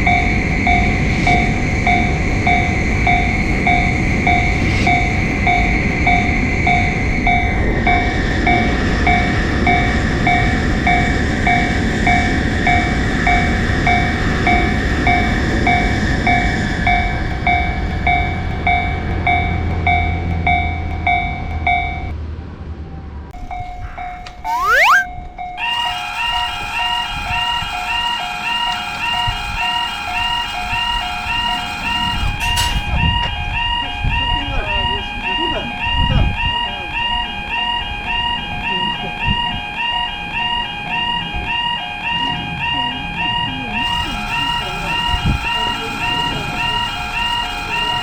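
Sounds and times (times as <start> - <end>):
level-crossing alarm bell: 0.0 - 22.1, 23.5 - 48.0
passing train rumble: 0.0 - 24.4, 25.3 - 48.0.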